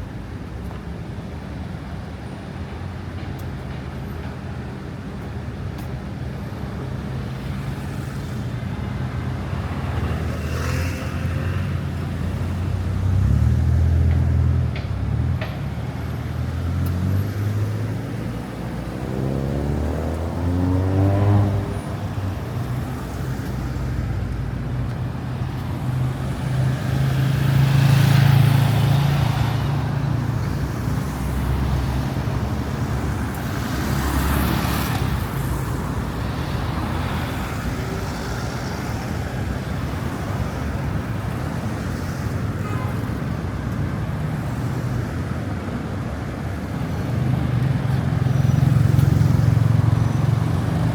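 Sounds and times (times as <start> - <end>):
cars passing: 7.2 - 50.9.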